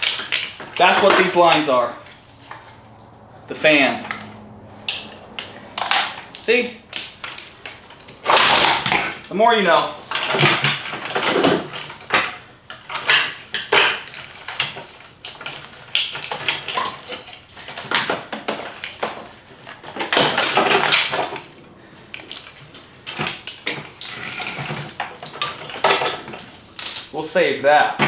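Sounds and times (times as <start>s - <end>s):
car parts clattering and knocking: 0.0s - 28.0s.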